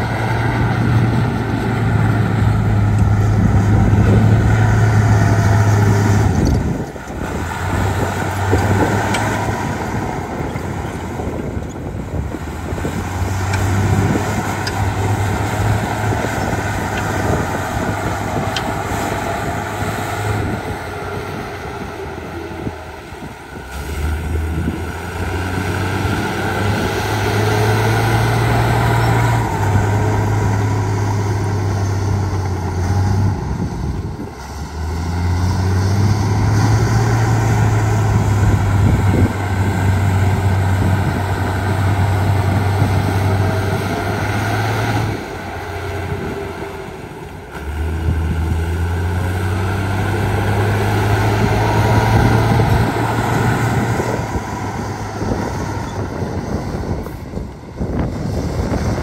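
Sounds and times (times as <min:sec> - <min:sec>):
heavy diesel engine under load: 0:00.0 - 0:59.0.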